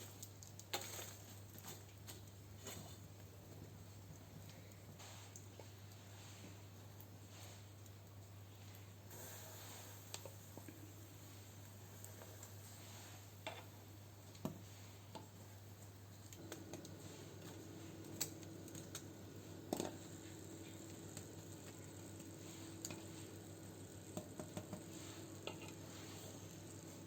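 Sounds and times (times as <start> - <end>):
steady low hum: 2.1 - 27.0.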